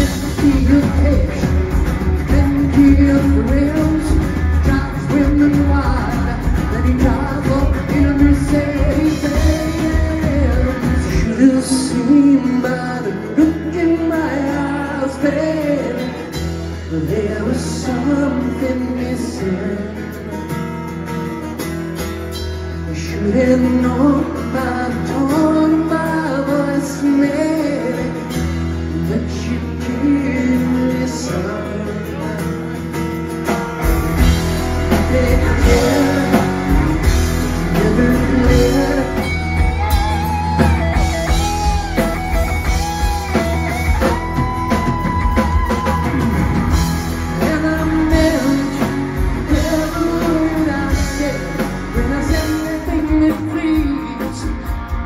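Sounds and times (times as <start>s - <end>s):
man singing lead vocal: 0.0s - 21.4s, 22.7s - 55.0s
bass guitar: 0.0s - 55.0s
drums: 0.0s - 55.0s
electric guitar: 0.0s - 55.0s.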